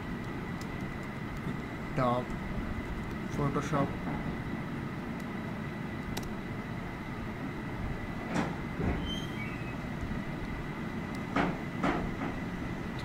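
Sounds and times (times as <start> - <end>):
low background rumble and hiss: 0.0 - 13.0.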